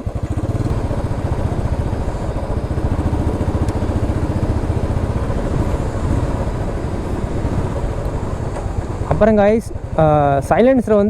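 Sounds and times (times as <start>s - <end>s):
motorcycle engine thumping: 0.0s - 11.0s
wind buffeting microphone: 0.0s - 11.0s.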